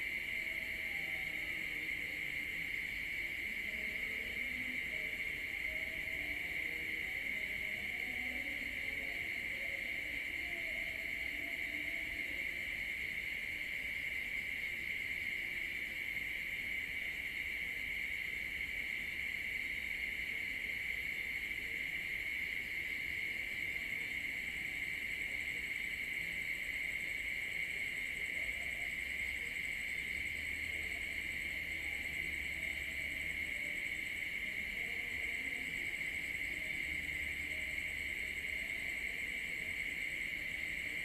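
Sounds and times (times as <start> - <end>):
night insects trilling: 0.0 - 41.0.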